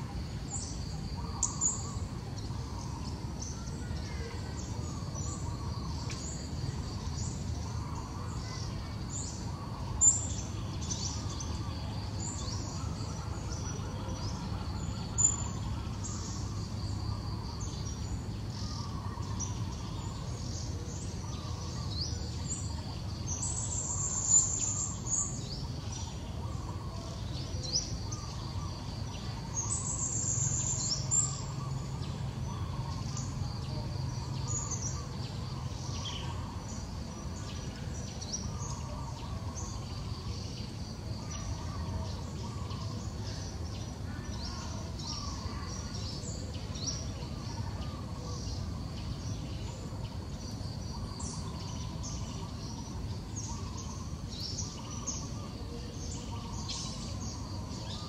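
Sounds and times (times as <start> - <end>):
low outdoor rumble: 0.0 - 58.0
wild birds chirping: 0.0 - 58.0.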